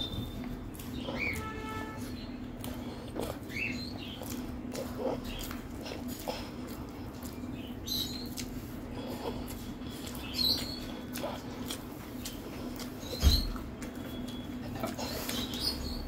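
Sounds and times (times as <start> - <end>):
person chewing and lip smacking: 0.0 - 16.0.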